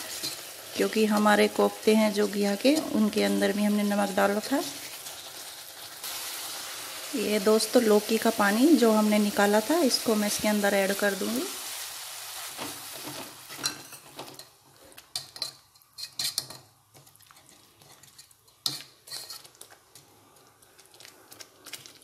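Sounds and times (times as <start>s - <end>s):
soft sizzle: 0.0s - 22.0s.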